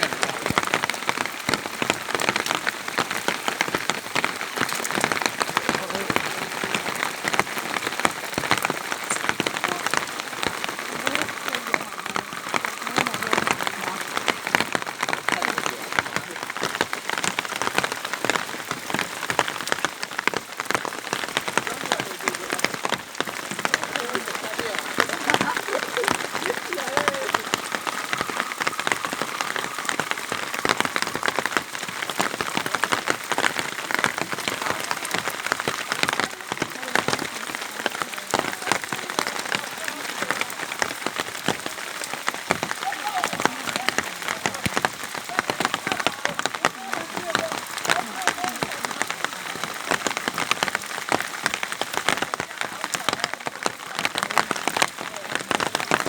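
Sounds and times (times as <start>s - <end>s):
rain falling: 0.0s - 56.0s
sharp raindrop hits: 0.0s - 56.0s.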